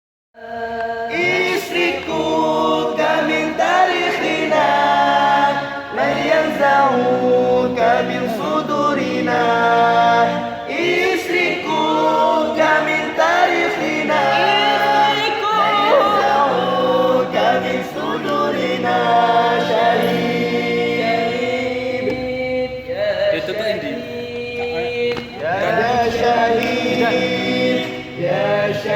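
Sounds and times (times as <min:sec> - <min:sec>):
small group singing in harmony: 0:00.4 - 0:28.9.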